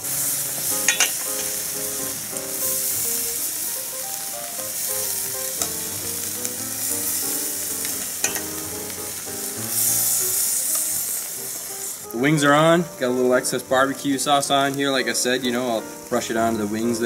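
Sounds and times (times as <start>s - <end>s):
chicken wings sizzling on grill: 0.0s - 17.0s.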